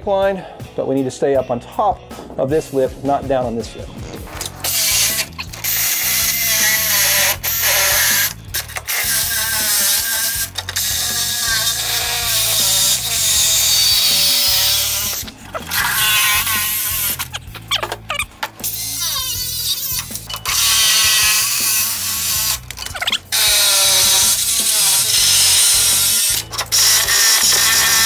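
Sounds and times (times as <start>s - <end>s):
reciprocating saw cutting sheet steel: 4.4s - 28.0s.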